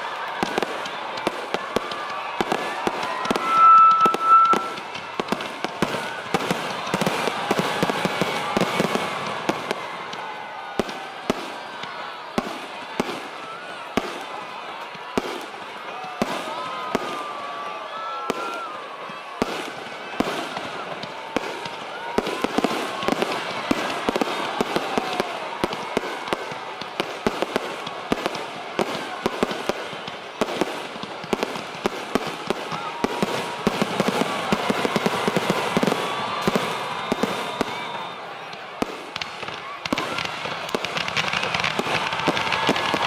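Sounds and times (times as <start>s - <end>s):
fireworks crackling and popping: 0.0s - 43.0s
whistling fireworks: 0.0s - 43.0s.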